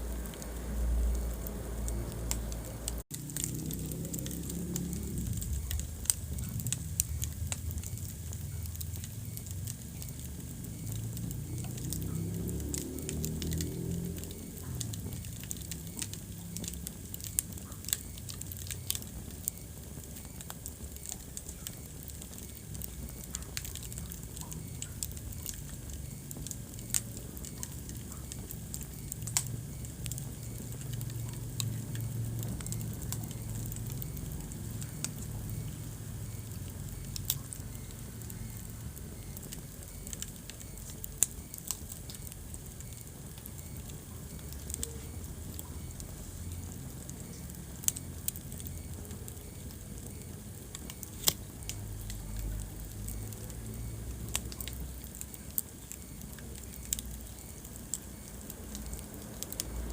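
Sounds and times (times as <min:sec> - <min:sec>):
fire crackling and popping: 0:00.0 - 0:59.9
fire rumbling: 0:00.0 - 0:59.9.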